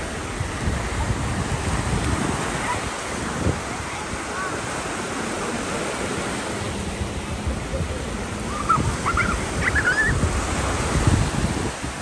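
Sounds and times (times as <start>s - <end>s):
wind buffeting microphone: 0.0s - 5.0s, 6.1s - 12.0s
small waves washing on sand: 0.0s - 12.0s.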